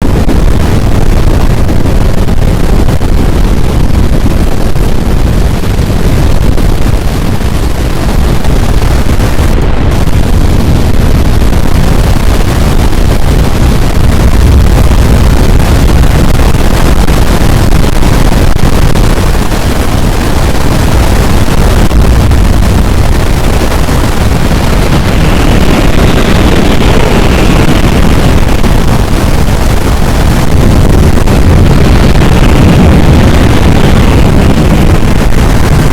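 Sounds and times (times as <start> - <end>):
strong wind on microphone: 0.0 - 35.9.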